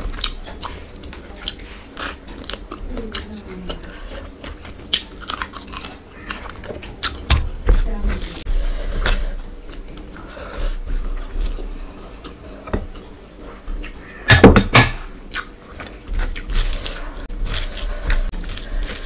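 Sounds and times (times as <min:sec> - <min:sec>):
person chewing food: 0:00.0 - 0:14.3, 0:14.9 - 0:19.0.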